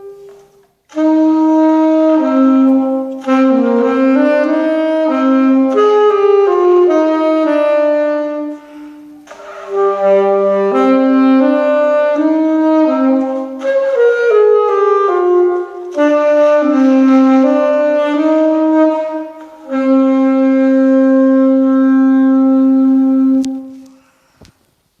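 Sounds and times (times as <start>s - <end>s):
saxophone slow melody: 0.0s - 24.4s.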